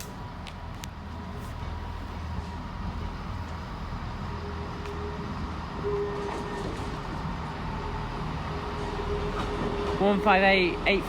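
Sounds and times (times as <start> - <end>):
diesel train low rumble: 0.0 - 11.0.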